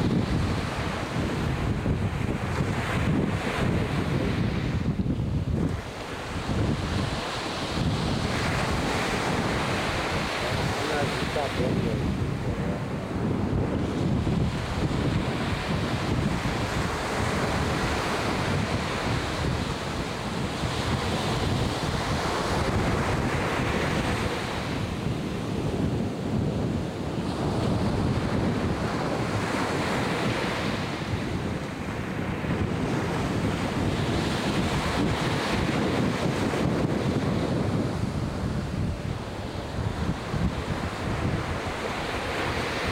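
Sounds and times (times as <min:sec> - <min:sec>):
surf breaking on a beach: 0:00.0 - 0:42.9
wind buffeting microphone: 0:00.0 - 0:42.9.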